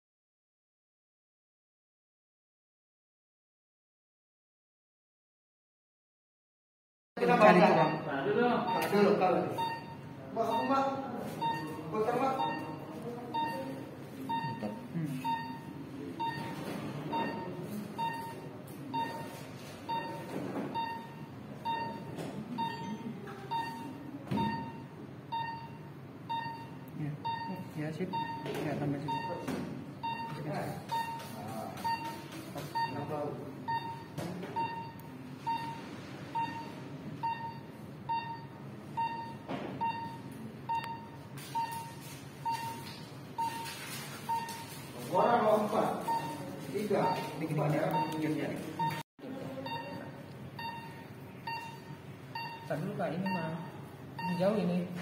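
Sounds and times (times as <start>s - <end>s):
faint room murmur: 7.2s - 55.0s
patient monitor beeping: 7.2s - 55.0s.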